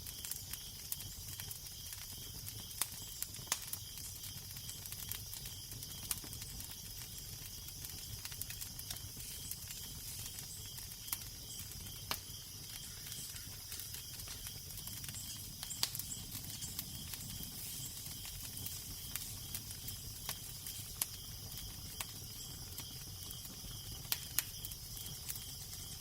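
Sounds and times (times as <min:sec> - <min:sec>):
fire crackling with pops: 0:00.0 - 0:26.0.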